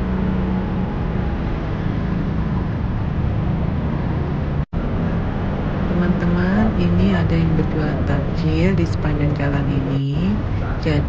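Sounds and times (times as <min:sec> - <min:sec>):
roadside din: 0:00.0 - 0:11.0
traffic hum: 0:00.0 - 0:11.0.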